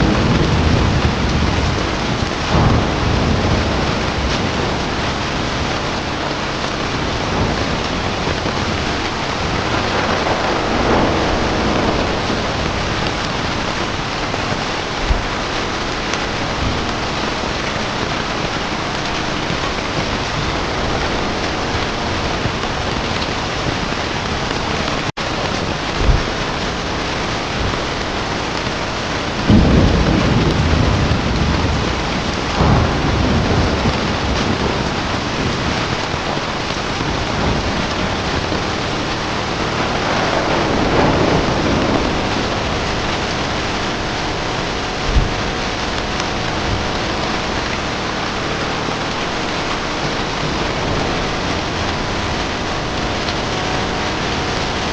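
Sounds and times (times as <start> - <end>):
heavy rain: 0.0 - 54.9
low rolling thunder: 0.0 - 54.9.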